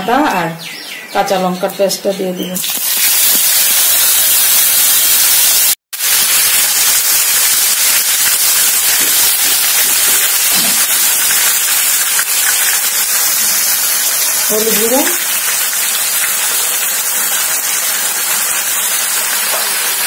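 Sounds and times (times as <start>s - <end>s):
paste sizzling in hot oil: 2.6s - 20.0s.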